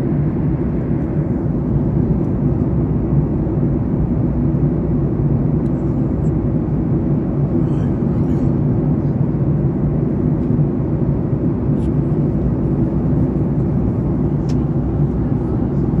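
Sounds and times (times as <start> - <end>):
jet engine rumble: 0.0 - 16.0
rushing air in cabin: 0.0 - 16.0.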